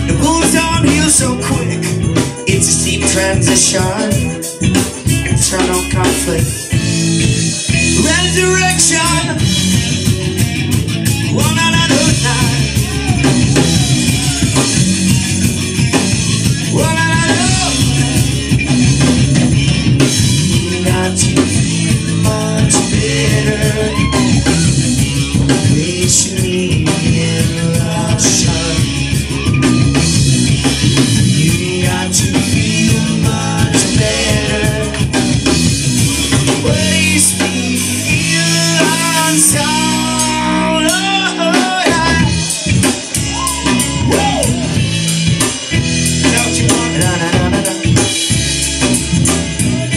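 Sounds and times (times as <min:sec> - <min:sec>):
man singing: 0:00.0 - 0:07.0, 0:07.6 - 0:48.4
drum kit: 0:00.0 - 0:49.9
electric guitars: 0:00.0 - 0:49.9.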